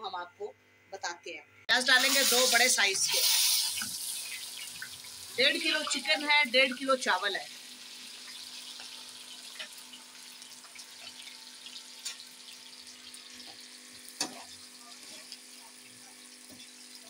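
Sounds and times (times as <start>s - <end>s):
onions sizzling in oil: 1.8s - 17.0s.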